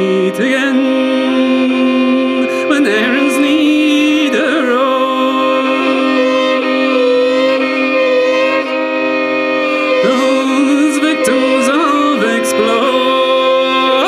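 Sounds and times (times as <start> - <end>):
fiddle playing slow air: 0.0 - 14.0
held drone note: 0.0 - 14.0
person singing: 0.0 - 14.0.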